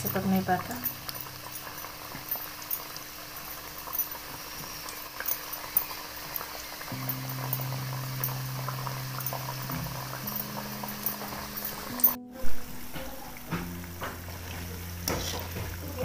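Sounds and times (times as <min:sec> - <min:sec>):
low steady hum: 0:00.0 - 0:06.0, 0:06.8 - 0:16.0
dough frying in oil: 0:00.0 - 0:12.2, 0:13.4 - 0:16.0
utensil tapping pan: 0:00.0 - 0:12.2, 0:12.9 - 0:16.0.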